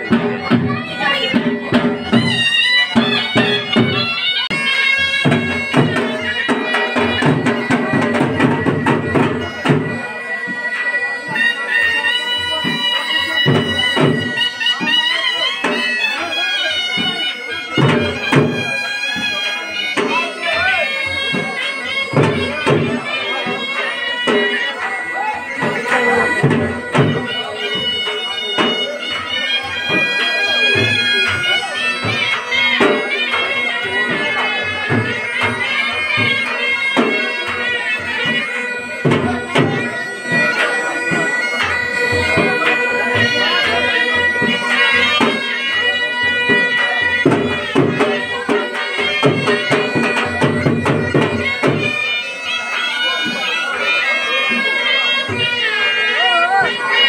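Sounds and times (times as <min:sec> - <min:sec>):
drum beats: 0:00.0 - 0:57.0
piercing reed pipe melody: 0:00.0 - 0:57.0.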